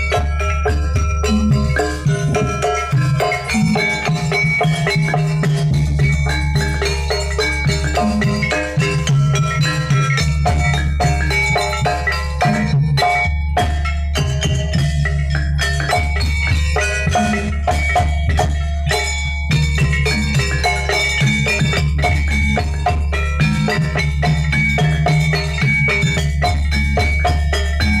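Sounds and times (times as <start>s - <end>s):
drums: 0.0s - 28.0s
heavy steady bass: 0.0s - 28.0s
metal-keyed mallet instruments: 0.0s - 28.0s.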